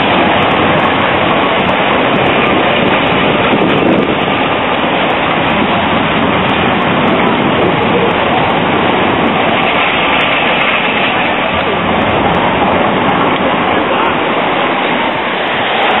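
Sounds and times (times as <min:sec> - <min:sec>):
car tyres hissing on wet road: 0:00.0 - 0:16.0
trams rolling over points: 0:00.0 - 0:16.0.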